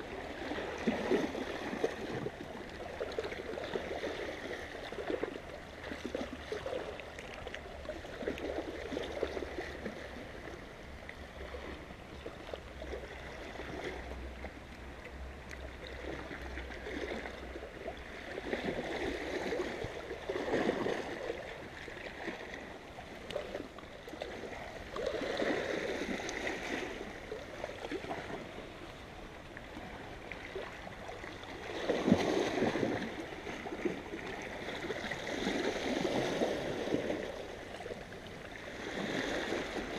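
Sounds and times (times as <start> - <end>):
waves lapping against rocks: 0.0 - 39.9.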